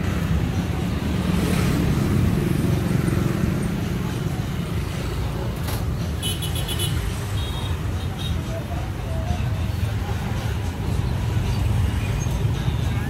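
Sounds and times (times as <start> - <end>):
motorbike engines rumbling: 0.0 - 13.0
street traffic: 0.0 - 13.0.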